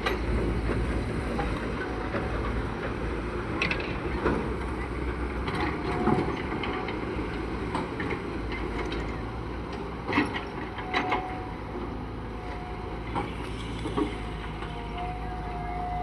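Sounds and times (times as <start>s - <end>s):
low construction rumble: 0.0s - 16.0s.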